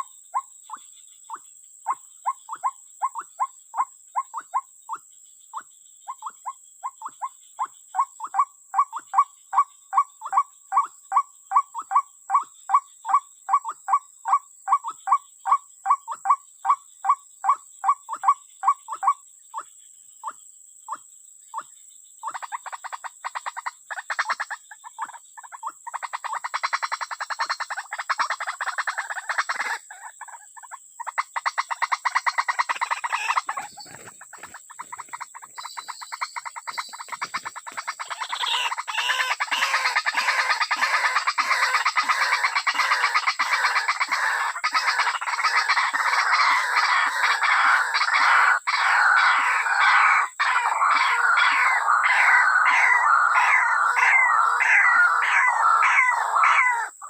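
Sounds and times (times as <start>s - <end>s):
animal calls in pulsing trills: 0.0s - 57.0s.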